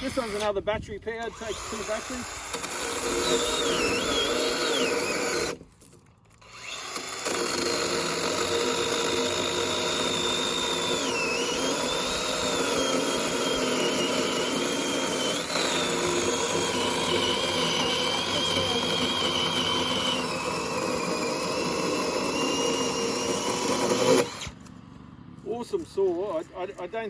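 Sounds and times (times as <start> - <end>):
electric chainsaw cutting wood: 0.0 - 0.6, 1.2 - 5.7, 6.3 - 24.8.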